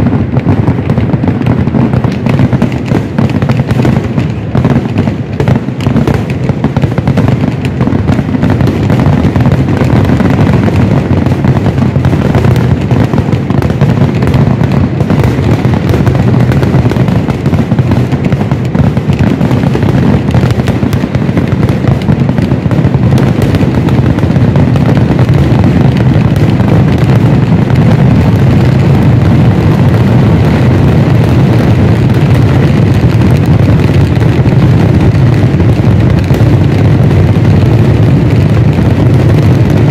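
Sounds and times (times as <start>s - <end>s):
firework explosions barrage: 0.0s - 39.9s.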